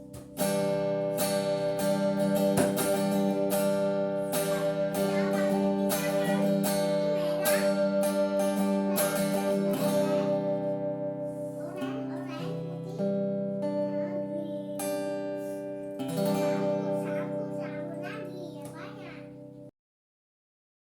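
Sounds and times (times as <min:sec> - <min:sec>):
guitar chords strummed: 0:00.0 - 0:19.7.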